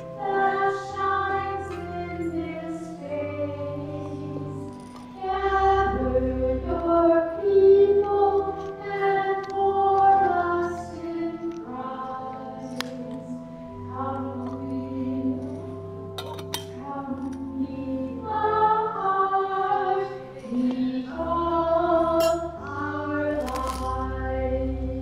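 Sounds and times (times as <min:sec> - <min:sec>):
voices singing a hymn: 0:00.0 - 0:15.9, 0:16.6 - 0:25.0.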